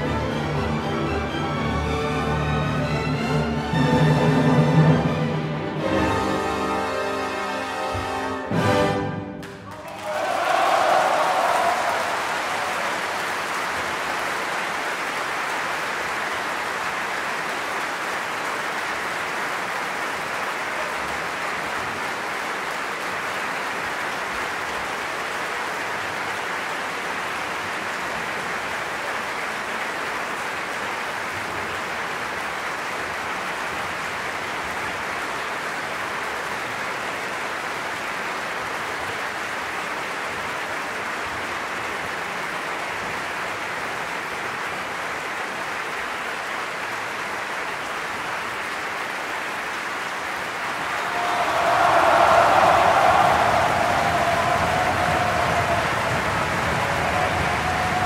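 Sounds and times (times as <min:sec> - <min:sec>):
large audience applauding: 0:00.0 - 0:58.0.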